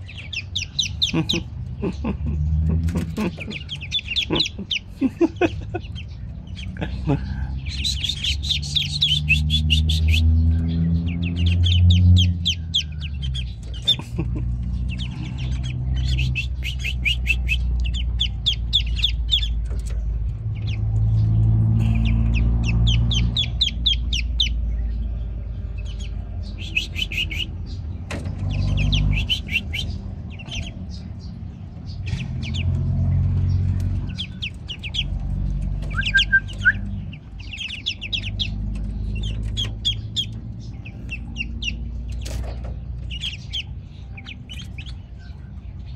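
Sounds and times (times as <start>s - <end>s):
ducklings peeping: 0.0s - 45.9s.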